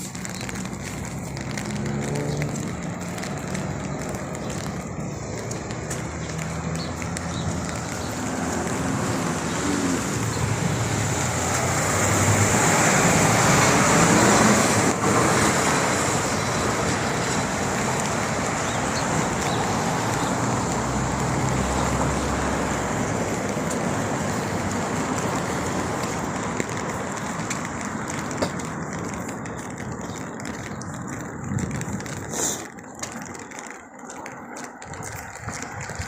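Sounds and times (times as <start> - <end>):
traffic on wet street: 0.0 - 36.0
vehicle passing: 0.0 - 36.0.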